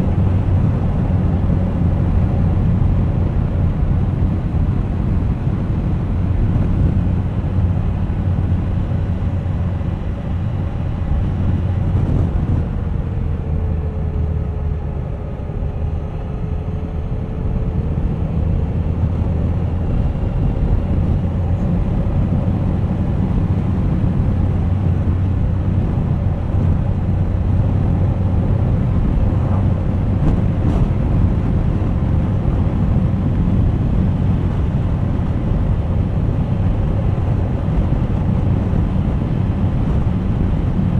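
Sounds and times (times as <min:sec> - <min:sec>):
road rumble: 0:00.0 - 0:40.9.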